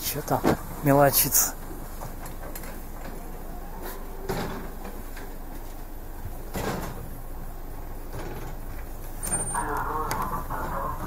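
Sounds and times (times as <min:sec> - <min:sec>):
train interior hum: 0:00.0 - 0:11.0.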